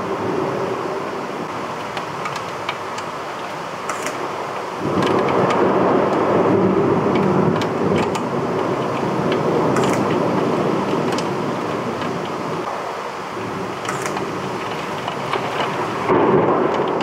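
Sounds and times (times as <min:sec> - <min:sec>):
heavy rain pouring: 0:00.0 - 0:17.0
long thunder rumble: 0:00.0 - 0:17.0.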